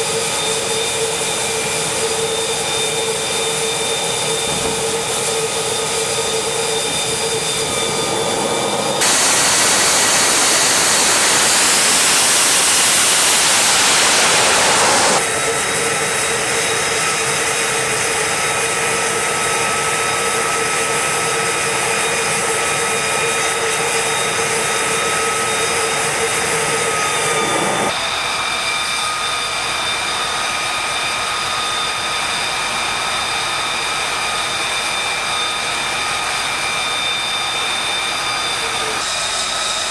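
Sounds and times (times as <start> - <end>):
jet engine rushing and whining: 0.0 - 39.9.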